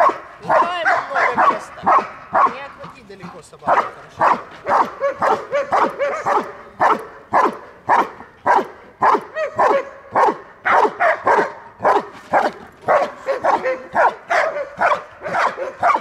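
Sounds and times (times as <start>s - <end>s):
dog barking: 0.0s - 16.0s.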